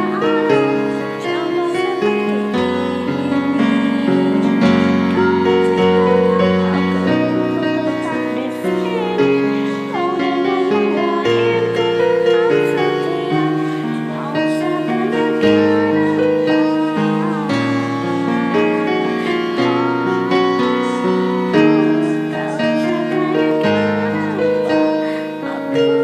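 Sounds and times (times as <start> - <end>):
lead melody line: 0.0 - 26.0
piano and keyboard chords: 0.0 - 26.0.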